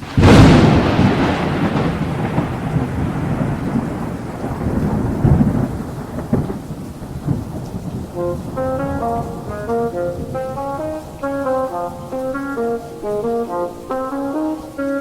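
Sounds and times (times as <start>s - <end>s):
rain hissing: 0.0s - 15.0s
thunder rolling: 0.0s - 15.0s.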